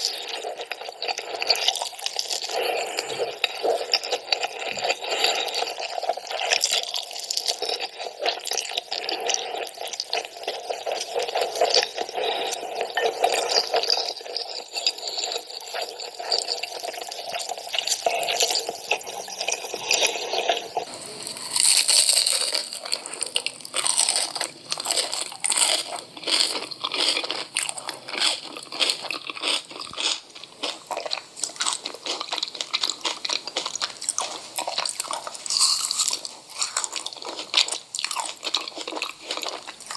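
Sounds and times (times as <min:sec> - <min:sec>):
crunching and chewing crisp food: 0:00.0 - 0:39.9.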